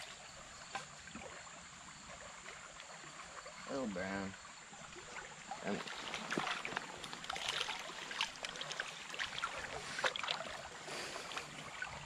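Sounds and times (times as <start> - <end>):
shallow stream running: 0.0 - 12.0
small water splashes: 0.0 - 12.0.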